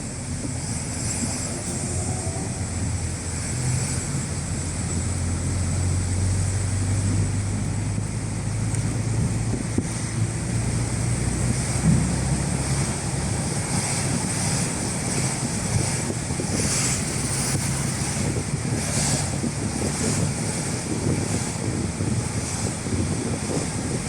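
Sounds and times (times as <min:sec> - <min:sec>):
car engine hum: 0:00.0 - 0:24.0
tyres hissing on wet road: 0:00.0 - 0:24.0.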